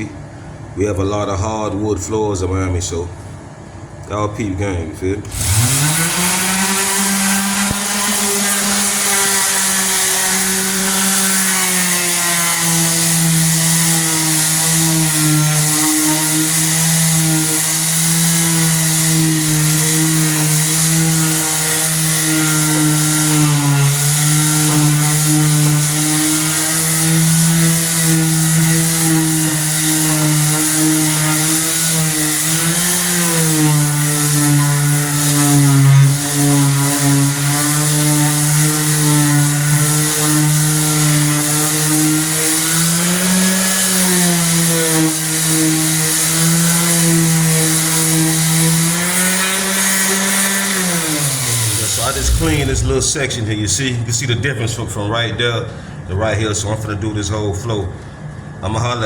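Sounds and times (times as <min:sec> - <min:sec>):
floor sander motor hum: 0:05.3 - 0:53.2
sanding hiss: 0:05.4 - 0:53.2.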